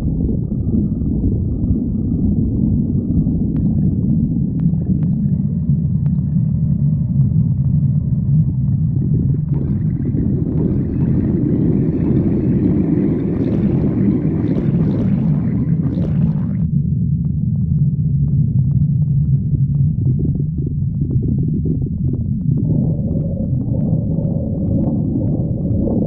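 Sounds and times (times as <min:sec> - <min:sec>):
stomach growling: 0:00.0 - 0:26.0.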